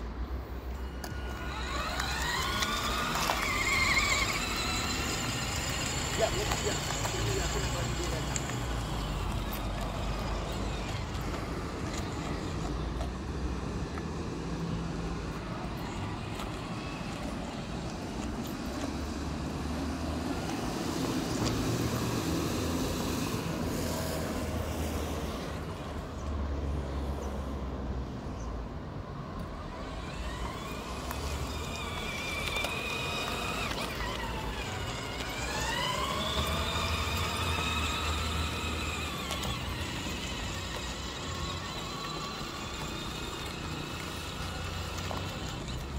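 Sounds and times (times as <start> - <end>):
motor whine: 0.3 - 26.0, 29.4 - 45.9
plastic tyres rumbling on asphalt: 0.7 - 26.0, 29.4 - 45.9.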